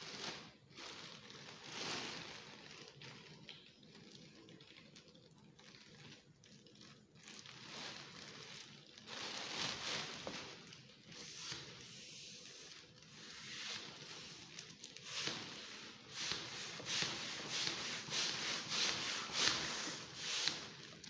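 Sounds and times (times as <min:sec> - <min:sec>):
foil balloon crinkling: 0:00.0 - 0:21.0.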